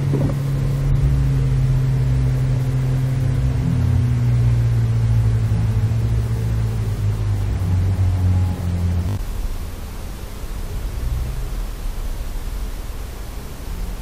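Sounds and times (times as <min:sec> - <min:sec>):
car engine droning: 0:00.0 - 0:14.0
road noise: 0:00.0 - 0:14.0.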